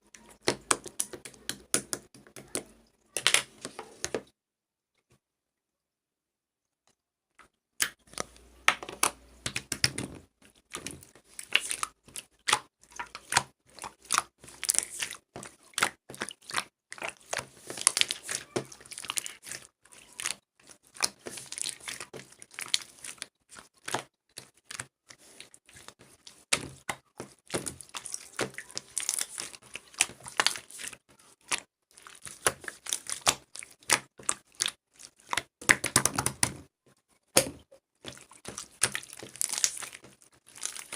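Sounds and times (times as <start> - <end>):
crinkling and crackling: 6.9 - 40.9.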